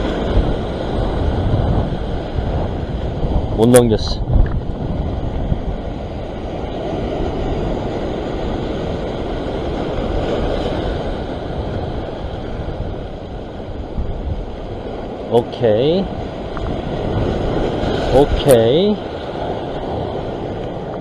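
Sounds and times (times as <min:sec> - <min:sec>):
surf breaking over rocks: 0:00.0 - 0:21.0
wind rushing over microphone: 0:00.0 - 0:21.0.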